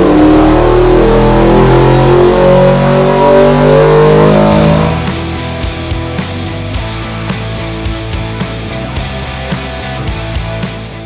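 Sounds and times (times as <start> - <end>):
vee eight engine running loud: 0.0 - 10.2.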